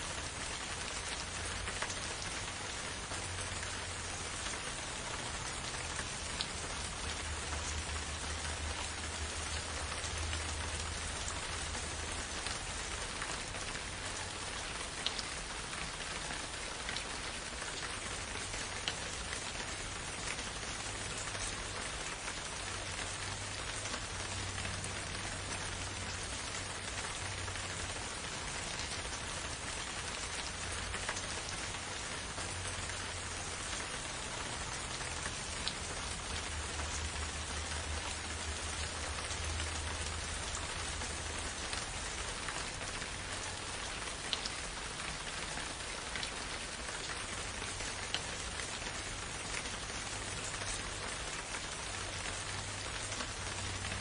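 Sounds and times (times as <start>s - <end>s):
steady rain hiss: 0.0s - 54.0s
raindrop ticks: 0.4s - 54.0s.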